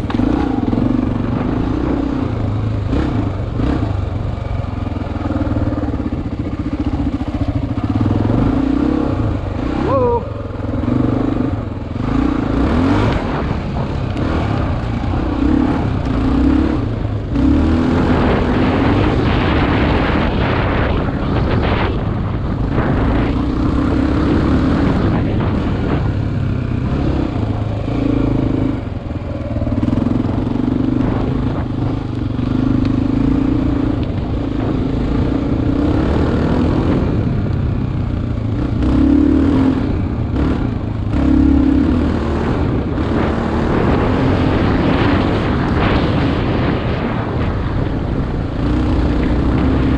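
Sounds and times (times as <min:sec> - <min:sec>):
constant rush of noise: 0:00.0 - 0:49.9
motorcycle engine running: 0:00.0 - 0:49.9.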